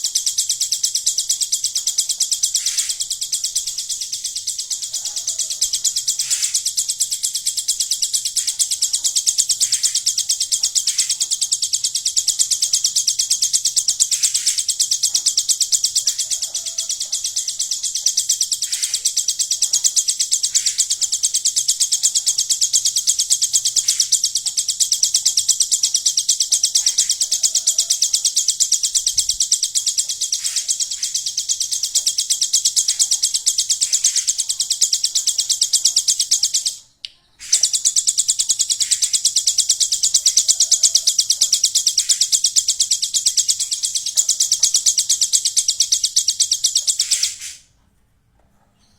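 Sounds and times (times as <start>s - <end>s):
bird singing high ticking trill: 0.0s - 47.7s.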